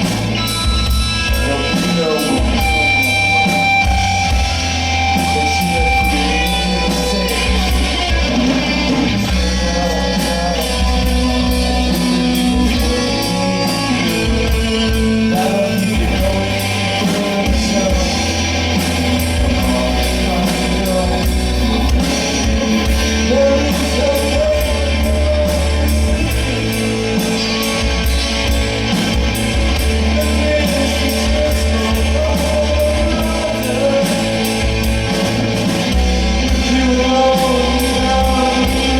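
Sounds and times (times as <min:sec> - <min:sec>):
live rock band playing: 0:00.0 - 0:38.9
person singing: 0:00.0 - 0:38.9
steady drum beat: 0:00.0 - 0:38.9.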